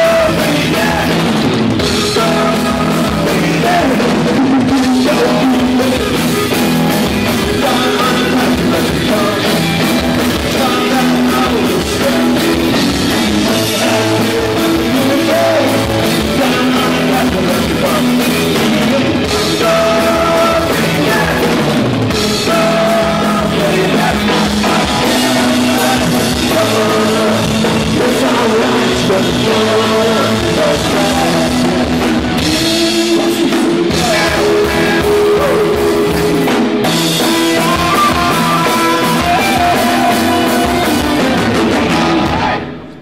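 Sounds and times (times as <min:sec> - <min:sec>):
person singing: 0:00.0 - 0:43.0
rock band playing: 0:00.0 - 0:43.0.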